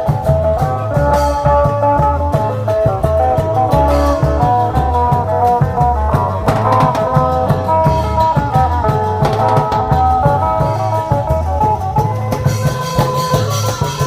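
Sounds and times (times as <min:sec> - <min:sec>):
drum beats: 0:00.0 - 0:14.0
plucked string melody: 0:00.0 - 0:14.0.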